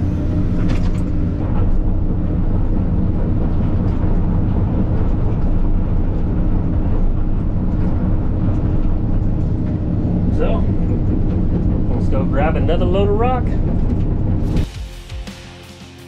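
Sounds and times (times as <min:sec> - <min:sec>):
diesel engine droning: 0:00.0 - 0:14.7.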